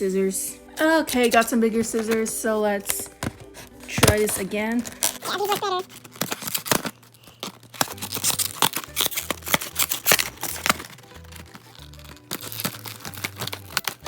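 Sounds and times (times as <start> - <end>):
scissors snipping packaging: 1.1 - 14.0.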